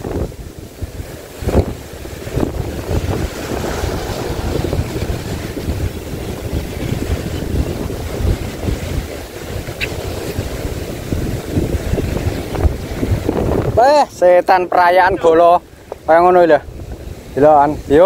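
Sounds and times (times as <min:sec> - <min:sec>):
waves washing against hull: 0:00.0 - 0:18.0
wind buffeting microphone: 0:00.0 - 0:18.0.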